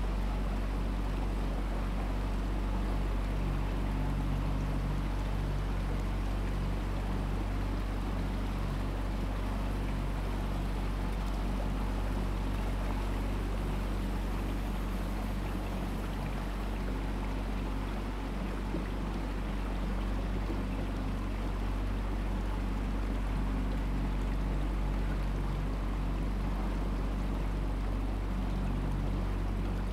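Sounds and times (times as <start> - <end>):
boat engine humming: 0.0 - 29.9
water rushing along hull: 0.0 - 29.9.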